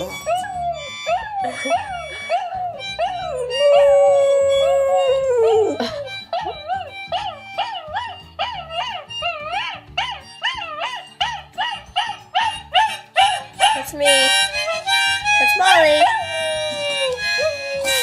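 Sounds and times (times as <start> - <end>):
background music: 0.0 - 18.0
dog howling and yelping: 0.0 - 18.0.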